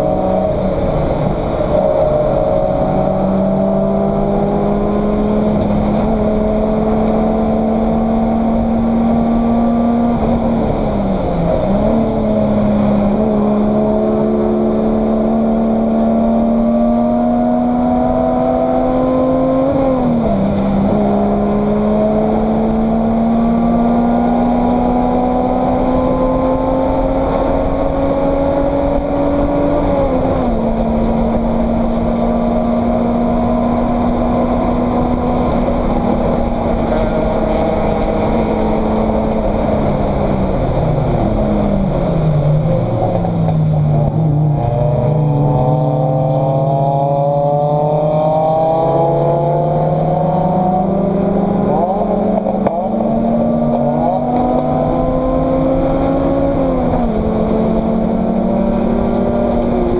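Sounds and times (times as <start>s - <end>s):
race car engine running hard: 0.0s - 59.9s
road and wind noise: 0.0s - 59.9s.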